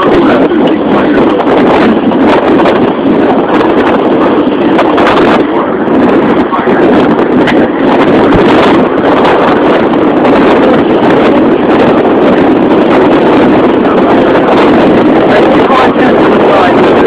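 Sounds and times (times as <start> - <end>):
boat rushing through water: 0.0 - 17.0
wind buffeting microphone: 0.0 - 17.0.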